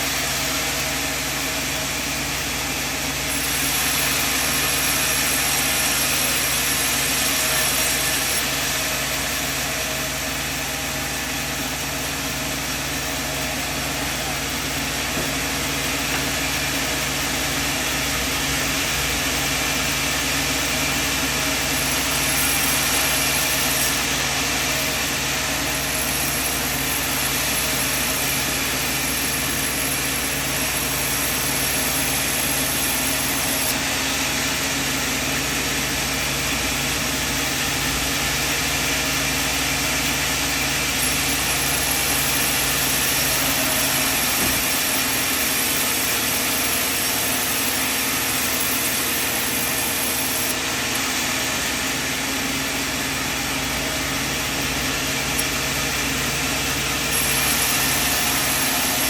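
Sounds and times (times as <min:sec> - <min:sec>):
sawmill machinery hum: 0:00.0 - 0:59.0
steady high whine: 0:00.0 - 0:59.0.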